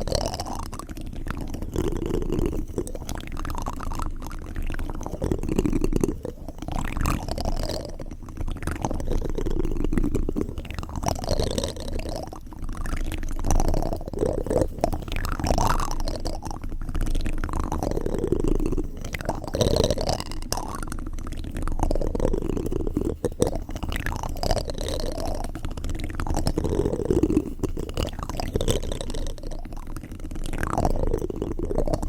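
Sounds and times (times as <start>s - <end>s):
wet mouth sounds: 0.0s - 32.0s.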